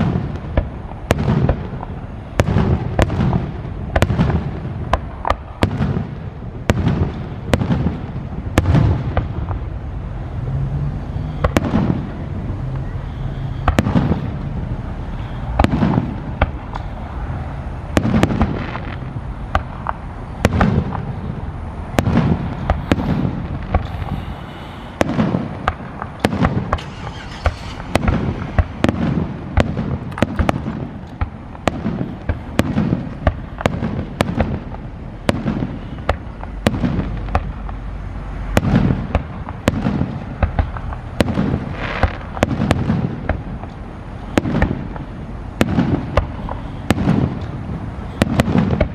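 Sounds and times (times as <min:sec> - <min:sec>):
firework cracks and pops: 0:00.0 - 0:09.7, 0:13.6 - 0:14.6, 0:15.5 - 0:17.0, 0:17.9 - 0:21.3, 0:21.9 - 0:37.9, 0:38.5 - 0:48.9
firework shells booming: 0:00.0 - 0:09.8, 0:11.2 - 0:48.9.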